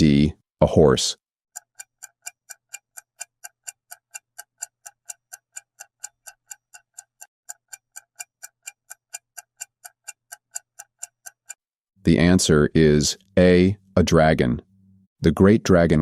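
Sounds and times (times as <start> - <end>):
clock ticking: 1.5 - 15.1.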